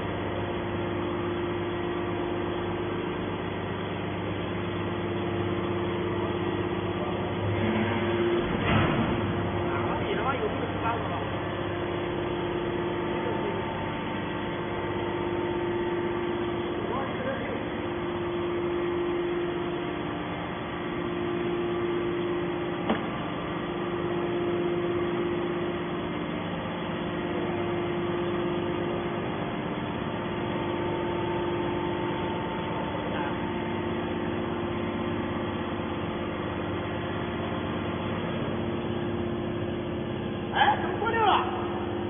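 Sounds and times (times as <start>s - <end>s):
hydraulic machine hum: 0.0s - 42.0s.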